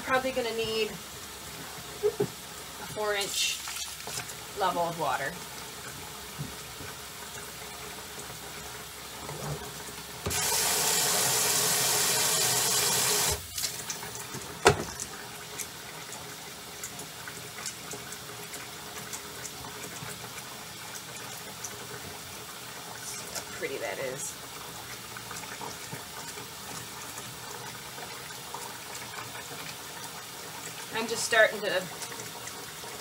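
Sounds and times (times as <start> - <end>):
faucet running into tub: 0.0 - 33.0.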